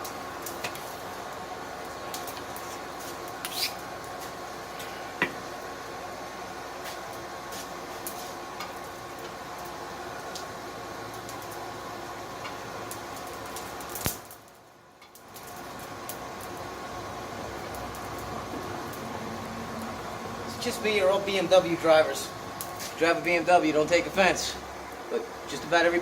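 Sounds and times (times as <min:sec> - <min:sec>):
forge burner whooshing hum: 0:00.0 - 0:26.0.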